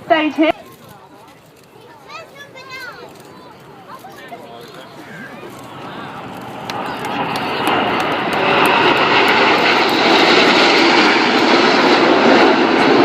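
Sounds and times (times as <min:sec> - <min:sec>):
airplane engine: 0:00.0 - 0:00.5, 0:03.1 - 0:13.0.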